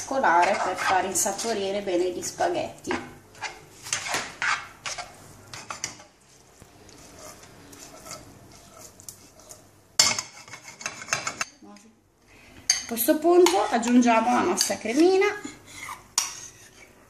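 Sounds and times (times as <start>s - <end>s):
spatula scraping frying pan: 0.0s - 1.7s, 2.8s - 6.2s, 6.8s - 11.5s, 12.7s - 17.0s.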